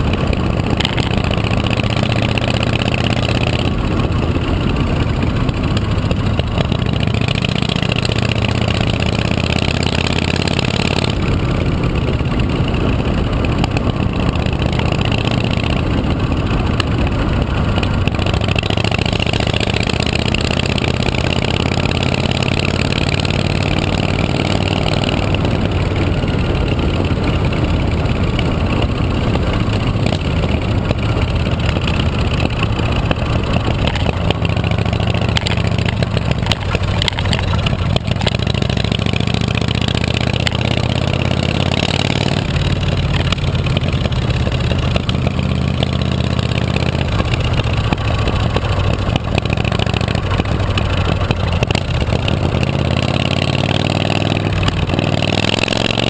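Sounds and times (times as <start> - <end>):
constant rushing noise: 0.0 - 56.0
motorcycle engine running: 0.0 - 56.0.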